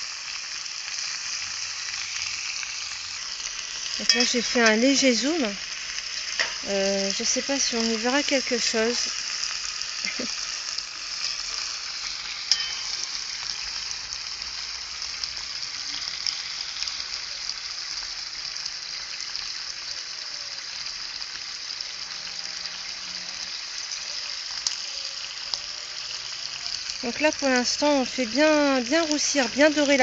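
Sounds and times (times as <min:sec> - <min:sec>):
meat sizzling in hot oil: 0:00.0 - 0:30.0.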